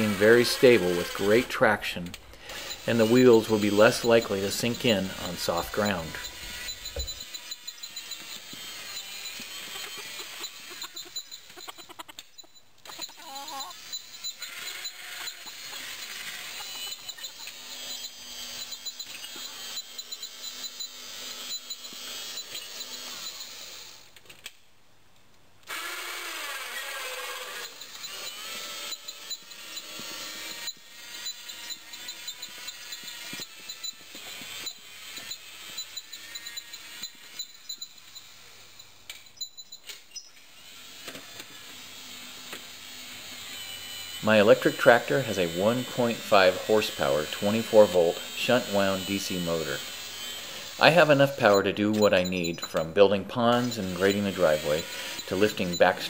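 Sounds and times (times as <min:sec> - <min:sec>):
electric motor whining: 0:00.0 - 0:24.6, 0:25.6 - 0:56.0.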